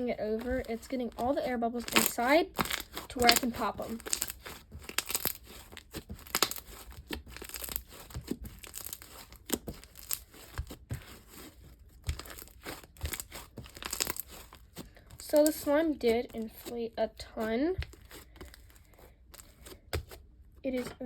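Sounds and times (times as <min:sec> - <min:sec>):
slime folded by hand: 0:00.3 - 0:20.9.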